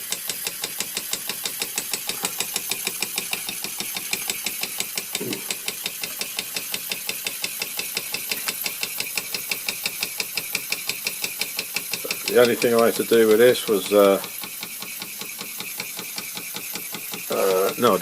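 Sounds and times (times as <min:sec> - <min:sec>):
toy steam engine ticking: 0:00.0 - 0:18.0.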